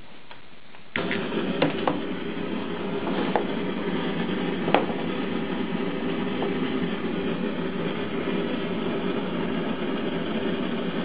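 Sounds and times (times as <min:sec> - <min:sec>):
blowtorch burning: 0:00.2 - 0:11.0.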